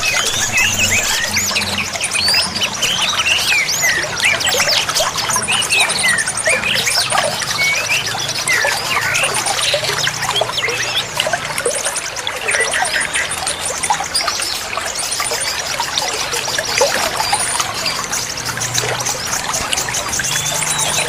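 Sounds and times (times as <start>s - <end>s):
small birds chirping: 0.0s - 21.0s
trickling splashing water: 0.0s - 21.0s.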